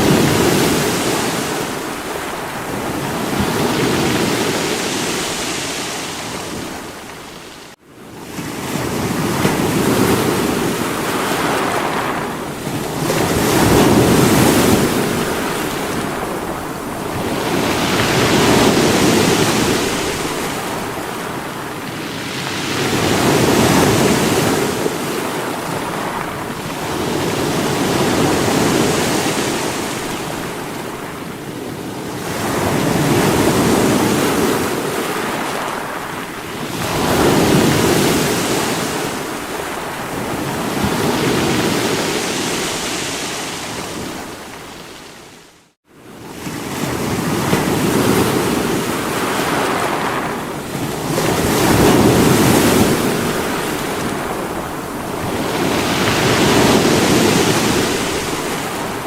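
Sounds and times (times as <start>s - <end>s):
sea waves breaking on rocks: 0.0s - 45.3s, 46.4s - 59.0s.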